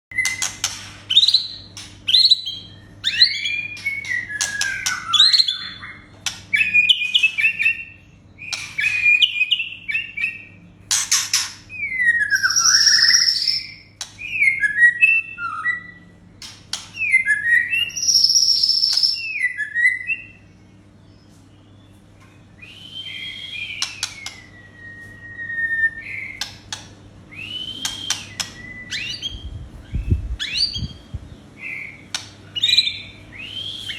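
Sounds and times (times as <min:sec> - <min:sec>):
bird singing whistled phrases: 0:01.1 - 0:10.6, 0:11.8 - 0:16.1, 0:17.0 - 0:20.4, 0:22.6 - 0:26.5, 0:27.3 - 0:31.0, 0:31.6 - 0:33.9.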